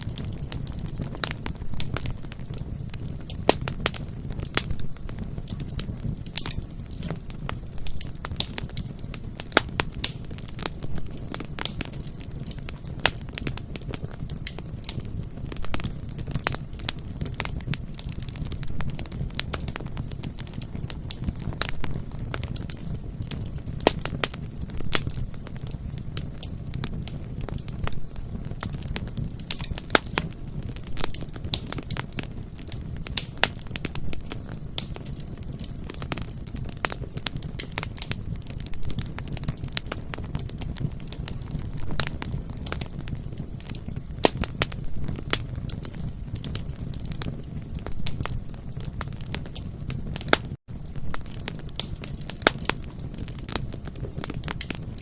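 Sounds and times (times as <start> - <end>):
bonfire flames rumbling: 0.0 - 55.0
burning wood popping and crackling: 0.0 - 55.0.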